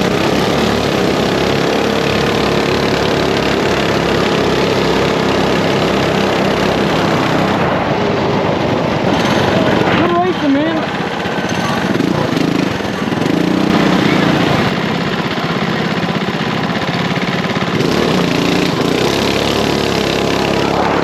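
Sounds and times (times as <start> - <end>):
mini bike engines racing: 0.0 - 21.0.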